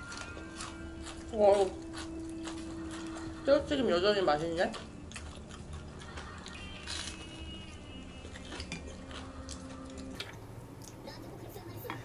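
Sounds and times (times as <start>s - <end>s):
person chewing: 0.0s - 3.4s, 4.7s - 11.2s
fried food crunching: 0.0s - 3.5s, 4.4s - 11.1s
faint background music: 0.0s - 12.0s.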